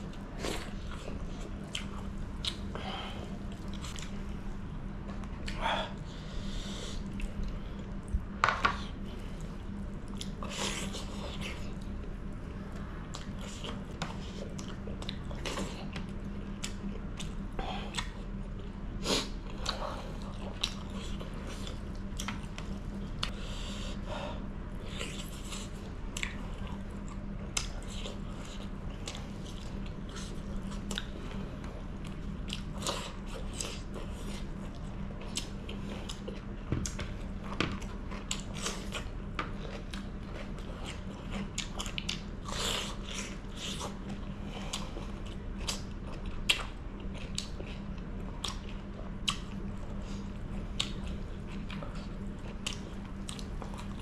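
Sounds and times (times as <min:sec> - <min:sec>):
person chewing food: 0:00.0 - 0:24.1, 0:24.7 - 0:54.0
steady low hum: 0:00.0 - 0:54.0.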